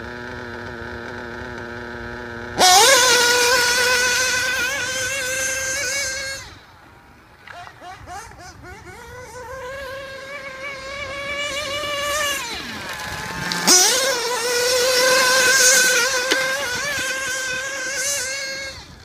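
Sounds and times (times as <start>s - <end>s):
nitro engine whining: 0.0s - 19.0s.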